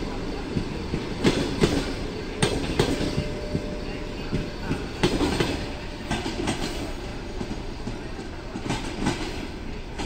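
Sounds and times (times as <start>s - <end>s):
train wheels clattering over rail joints: 0.5s - 10.0s.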